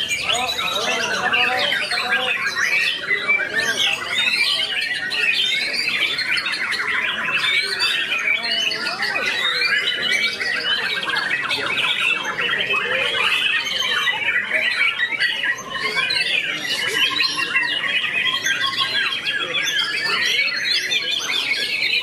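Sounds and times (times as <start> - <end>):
other songbirds singing: 0.0 - 22.0.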